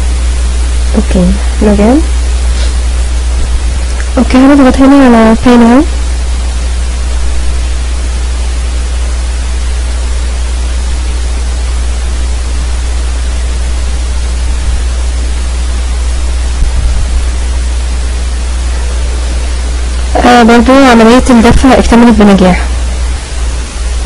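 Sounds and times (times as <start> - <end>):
low hum: 0.0 - 24.0
steady hiss: 0.0 - 24.0.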